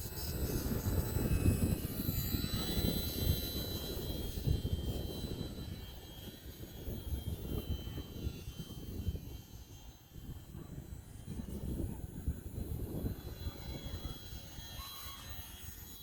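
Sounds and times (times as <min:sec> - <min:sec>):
wind buffeting microphone: 0:00.0 - 0:14.8
model airplane motor whining: 0:00.0 - 0:16.0.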